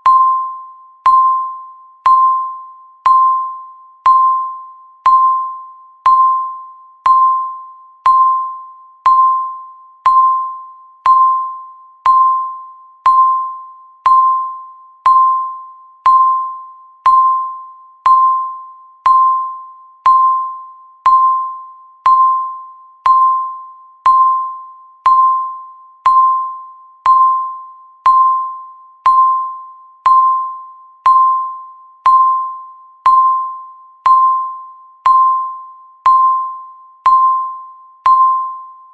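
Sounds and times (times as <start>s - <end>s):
timer beeping: 0.0s - 38.9s.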